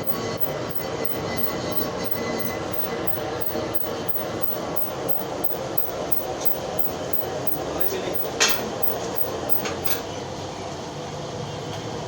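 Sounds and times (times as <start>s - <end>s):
workshop machine running: 0.0s - 12.0s.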